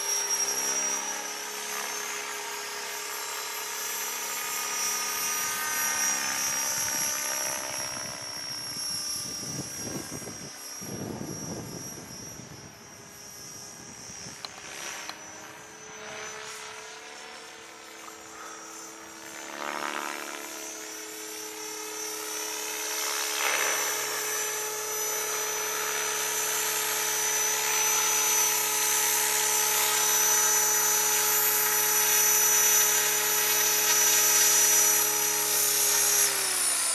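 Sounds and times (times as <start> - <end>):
model helicopter rotor whine: 0.0 - 36.9.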